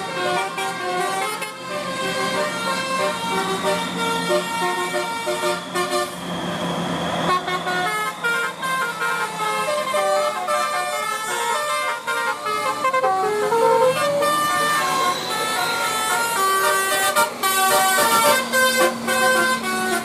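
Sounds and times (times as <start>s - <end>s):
bus horn melody: 0.0s - 6.2s, 7.2s - 20.0s
bus engine hum: 0.0s - 20.0s.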